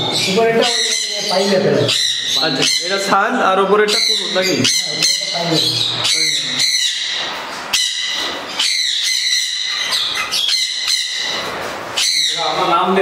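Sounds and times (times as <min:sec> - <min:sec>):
parrots squawking and screeching: 0:00.0 - 0:13.0.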